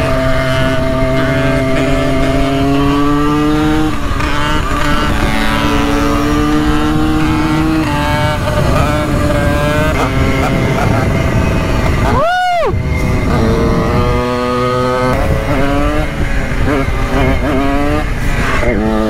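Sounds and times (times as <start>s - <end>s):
moped engine under load: 0.0s - 12.1s, 12.8s - 19.0s.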